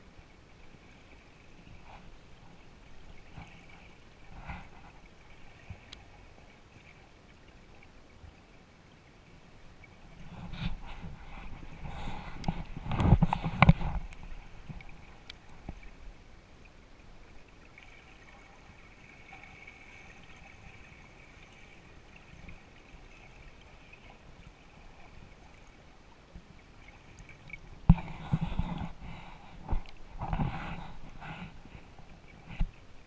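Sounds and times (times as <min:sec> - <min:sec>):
muffled underwater hiss: 0:00.0 - 0:33.0
water splashing and sloshing: 0:00.0 - 0:33.0.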